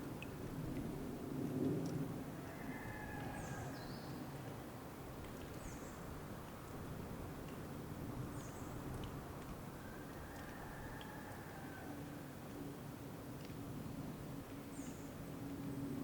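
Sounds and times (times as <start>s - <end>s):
low rumbling hiss: 0.0s - 16.0s.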